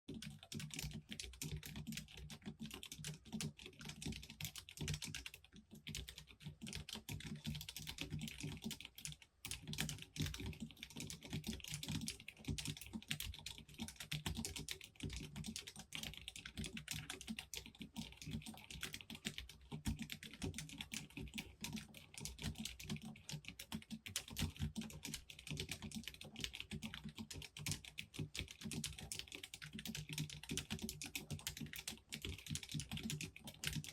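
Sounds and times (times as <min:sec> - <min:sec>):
typing on mechanical keyboard: 0:00.1 - 0:33.9.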